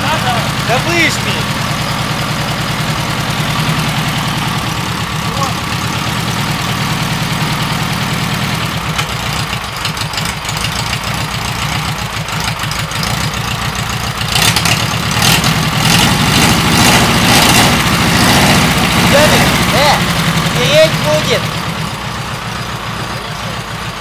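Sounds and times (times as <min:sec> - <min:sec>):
car engine rough idle: 0:00.0 - 0:24.0.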